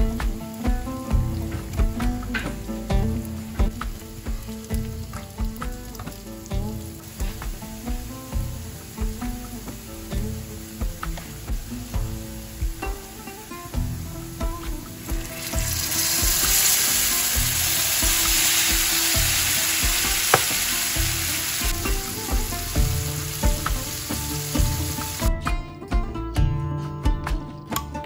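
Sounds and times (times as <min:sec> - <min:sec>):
soft background music: 0:00.0 - 0:28.0
food sizzling in frying pan: 0:00.1 - 0:25.3.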